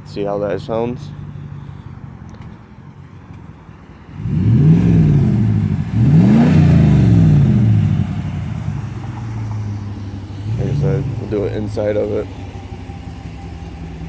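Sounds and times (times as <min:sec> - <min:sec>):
loud car engine idling and revving: 0:00.0 - 0:14.0.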